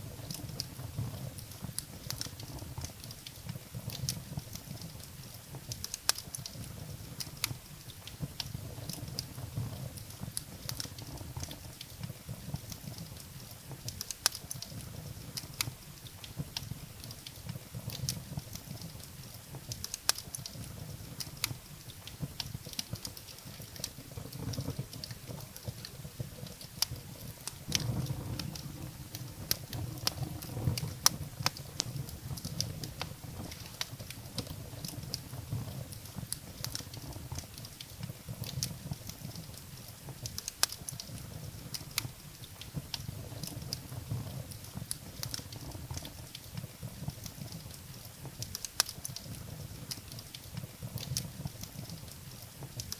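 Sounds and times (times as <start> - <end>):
firewood crackling and popping: 0.0 - 52.9
low rumble of flames: 0.0 - 52.9.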